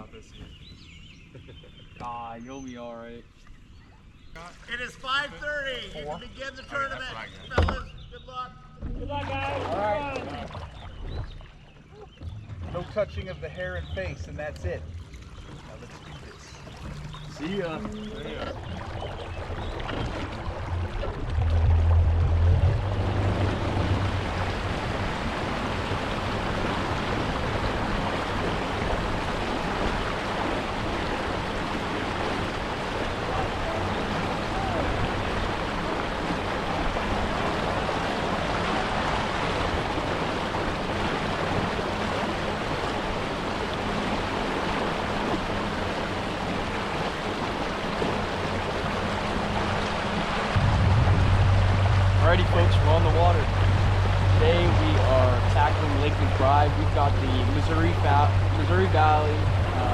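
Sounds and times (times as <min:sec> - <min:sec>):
faint low engine drone: 0:00.0 - 0:59.9
rush of wind and water: 0:08.8 - 0:59.9.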